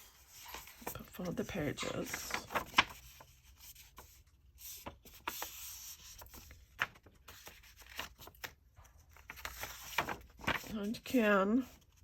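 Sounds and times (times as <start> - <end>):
paper rustling and creasing: 0.0 - 12.0.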